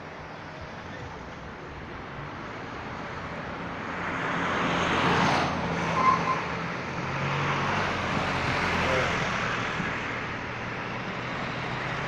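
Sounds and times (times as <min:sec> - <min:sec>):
car passing: 0:01.6 - 0:12.0.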